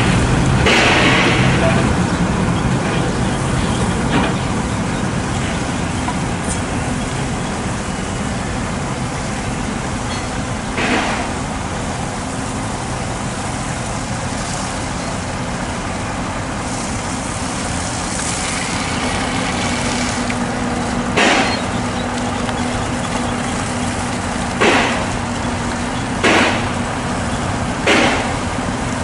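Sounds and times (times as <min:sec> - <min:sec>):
diesel trucks idling: 0:00.0 - 0:29.0
high-pressure water hoses spraying: 0:00.0 - 0:29.0.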